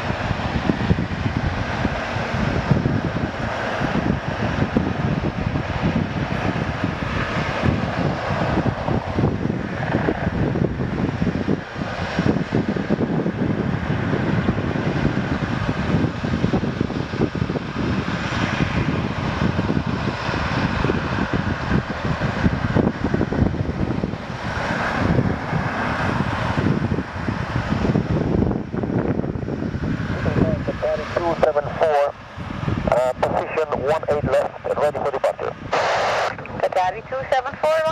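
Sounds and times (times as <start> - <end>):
gusty wind on microphone: 0.0 - 37.9
jet engines running: 0.0 - 37.9.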